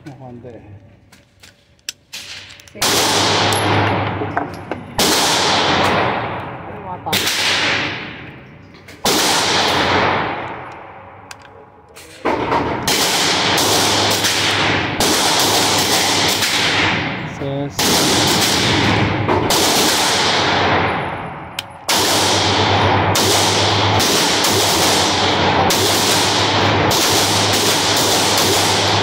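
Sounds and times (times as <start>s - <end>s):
pistol gunshots echoing: 2.1s - 11.4s, 12.0s - 29.0s.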